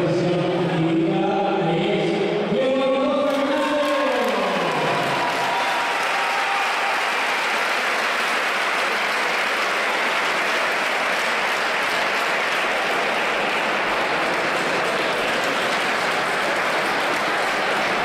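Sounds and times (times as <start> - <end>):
crowd applauding: 3.3 - 18.0.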